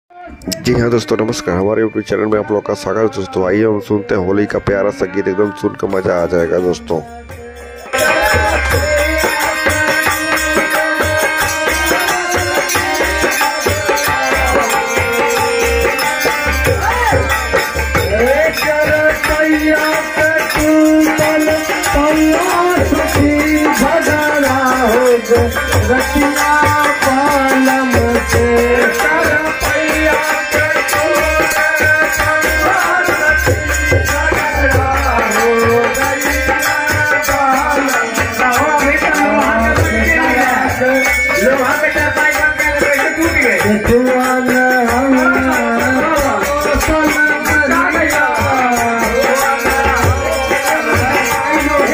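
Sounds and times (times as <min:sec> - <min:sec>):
men singing folk song: 0:02.4 - 0:51.9.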